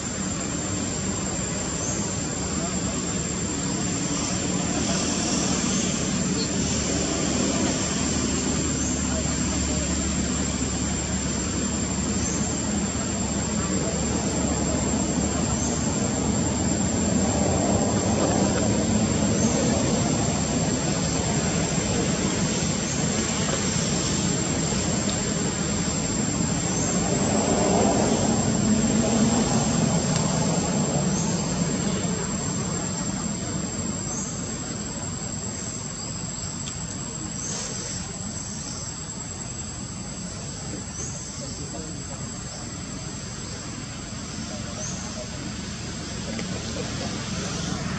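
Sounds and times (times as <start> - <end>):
distant engines rumbling: 0.0 - 47.9
high-pitched whine: 0.0 - 47.9.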